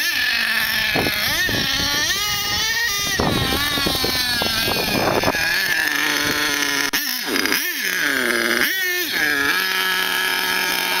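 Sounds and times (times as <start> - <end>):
toy truck nitro engine revving: 0.0 - 11.0.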